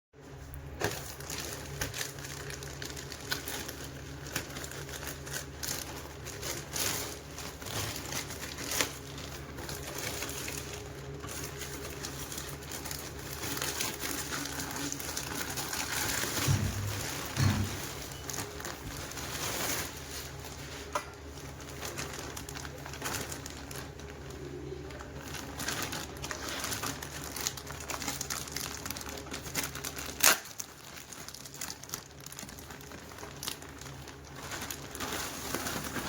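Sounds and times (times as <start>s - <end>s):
plastic packaging crinkling: 0.2s - 36.0s
steady low hum: 0.2s - 36.0s.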